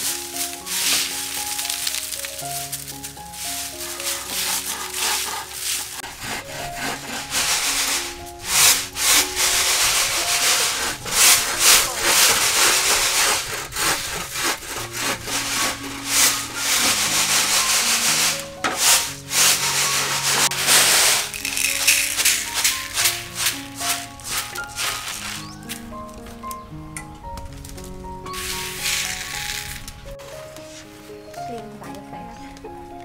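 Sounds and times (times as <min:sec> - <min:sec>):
beans rattling in bamboo tray: 0:00.0 - 0:26.3, 0:27.6 - 0:30.1
soft background music: 0:00.0 - 0:33.0.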